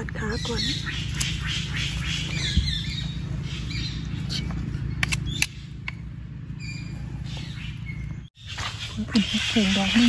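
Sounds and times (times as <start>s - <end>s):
birds chirping: 0.0s - 10.0s
low steady rumble: 0.0s - 10.0s.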